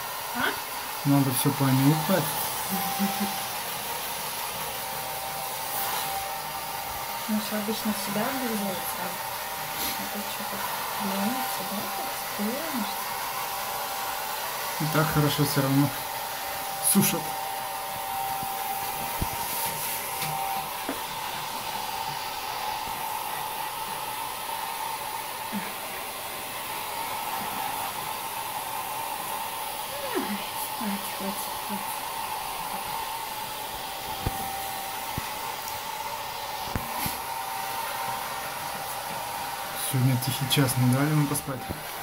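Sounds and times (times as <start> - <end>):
hair dryer running: 0.0 - 42.0.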